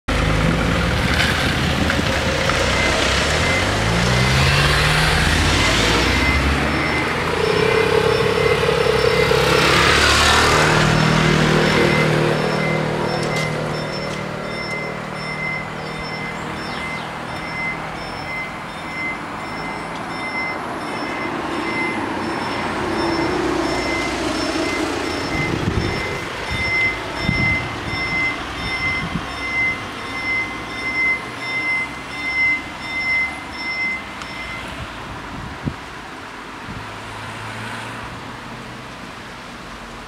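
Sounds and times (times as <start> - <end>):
car engine: 0.1 - 40.0
level crossing warning bells: 2.0 - 35.0.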